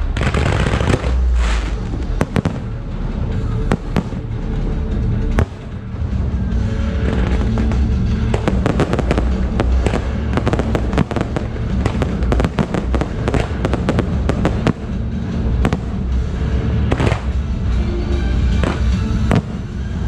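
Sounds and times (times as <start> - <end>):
fireworks bangs and crackles: 0.0 - 17.8, 18.4 - 20.0
low rumble: 0.0 - 20.0.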